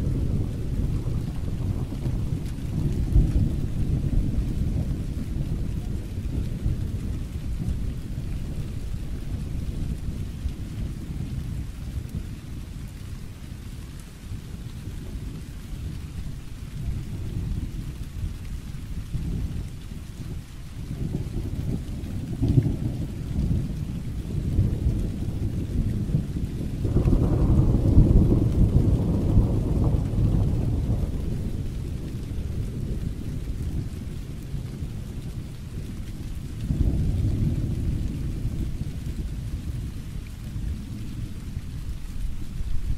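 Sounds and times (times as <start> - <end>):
low rumble of thunder: 0.0 - 42.9
steady rain: 0.0 - 42.9.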